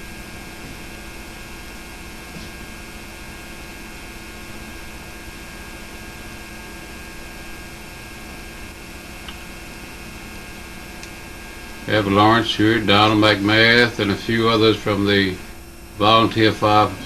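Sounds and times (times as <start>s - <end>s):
electrical hum: 0.0s - 17.0s
tape hiss: 0.0s - 17.0s.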